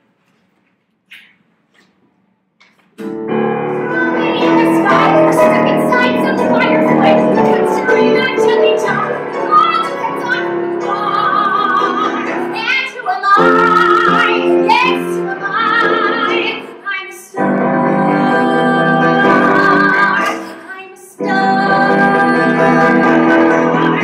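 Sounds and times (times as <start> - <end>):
piano accompaniment: 3.0 - 24.0
woman singing: 3.8 - 24.0.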